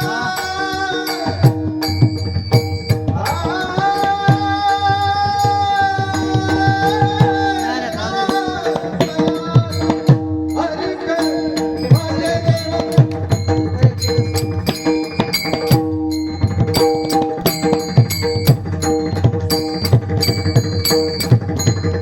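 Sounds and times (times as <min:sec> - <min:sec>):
drum beats: 0:00.0 - 0:22.0.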